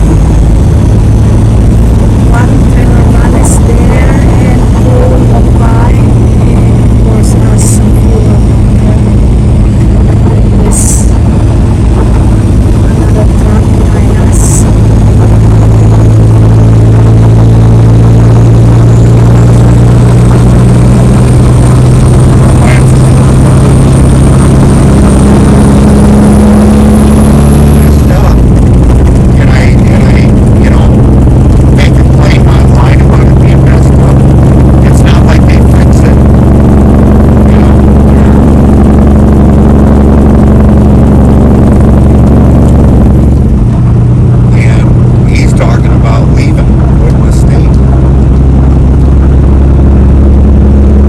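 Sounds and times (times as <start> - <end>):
heavy truck engine drone: 0.0 - 51.0.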